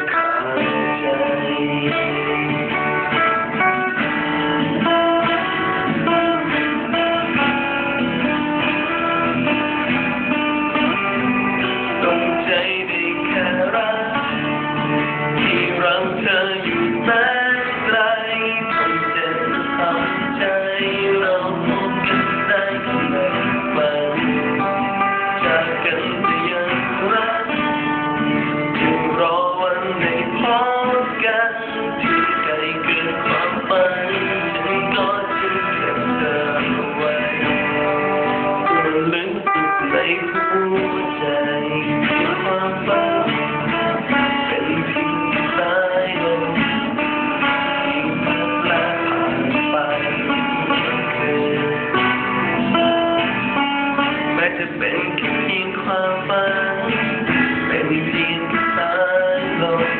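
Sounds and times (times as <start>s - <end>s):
lead guitar: 0.0s - 59.9s
pop-rock band playing: 0.0s - 59.9s.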